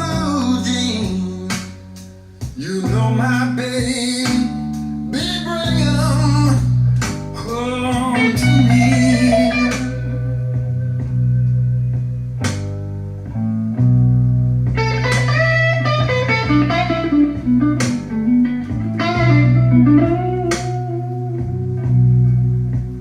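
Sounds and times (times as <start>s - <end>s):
bent electric guitar lead: 0.0s - 23.0s
steady bass line: 0.0s - 23.0s.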